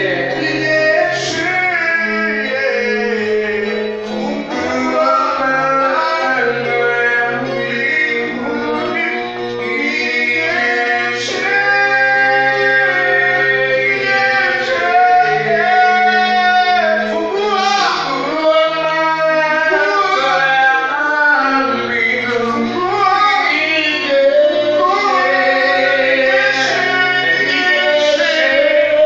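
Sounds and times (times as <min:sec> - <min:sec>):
instrumental backing with bass: 0:00.0 - 0:29.0
voices singing: 0:00.0 - 0:29.0.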